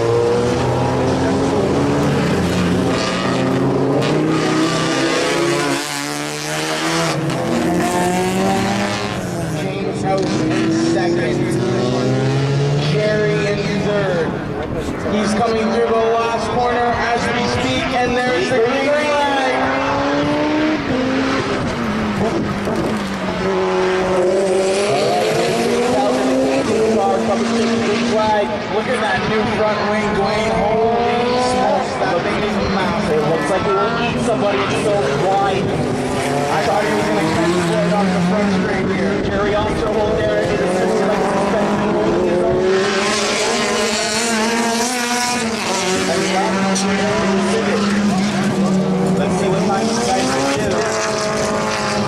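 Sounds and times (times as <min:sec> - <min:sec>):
race car engine at high revs: 0:00.0 - 0:52.0.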